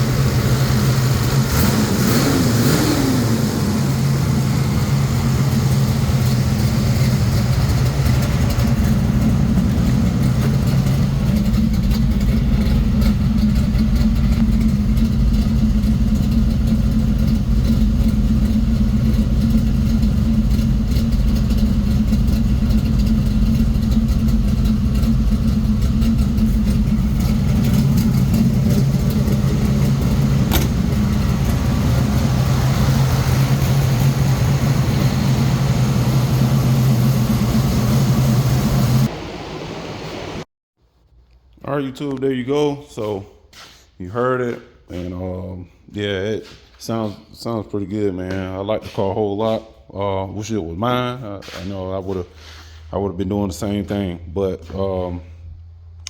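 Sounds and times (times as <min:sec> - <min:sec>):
car engine idling: 0:00.0 - 0:40.4, 0:50.7 - 0:56.0.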